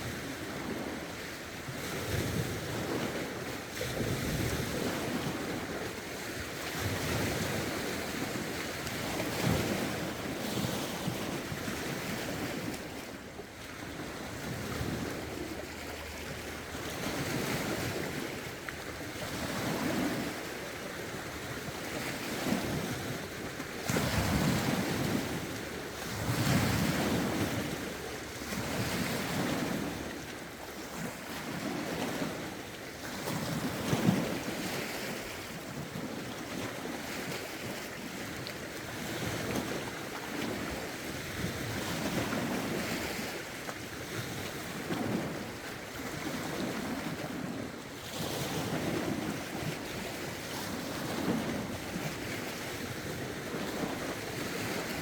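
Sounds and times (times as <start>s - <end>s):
lake waves washing against shore: 0.0s - 55.0s.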